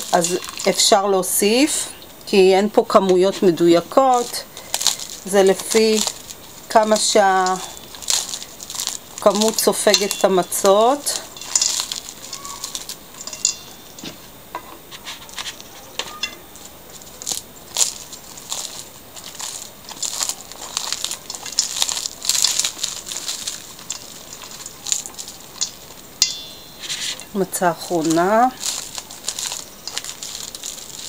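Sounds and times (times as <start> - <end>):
matzo cracking and crunching: 0.0 - 31.0.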